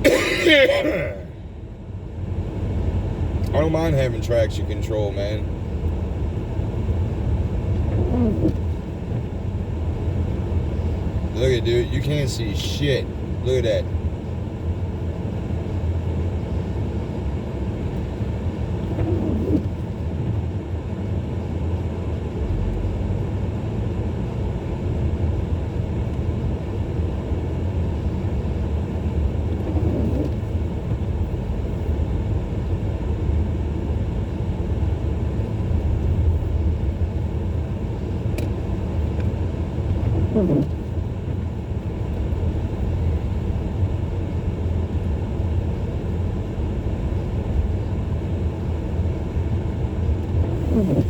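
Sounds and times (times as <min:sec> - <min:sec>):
car engine rumble: 0:00.0 - 0:51.0.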